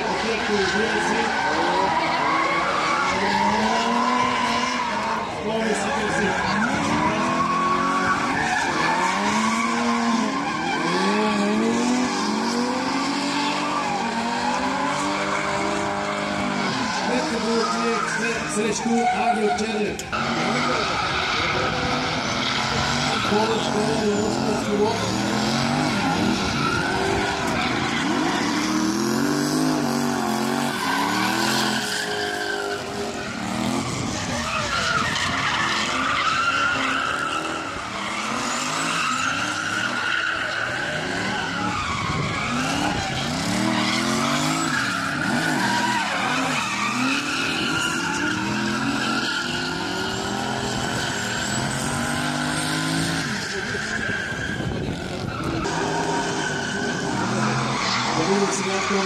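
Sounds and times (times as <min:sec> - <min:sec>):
car engine revving: 0:00.0 - 0:59.0
tyres squealing and skidding: 0:00.0 - 0:59.0.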